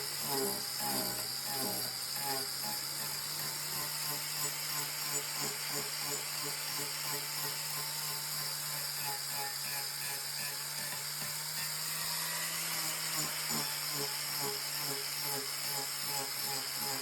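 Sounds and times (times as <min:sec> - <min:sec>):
electric grinder cutting wood: 0:00.0 - 0:17.0.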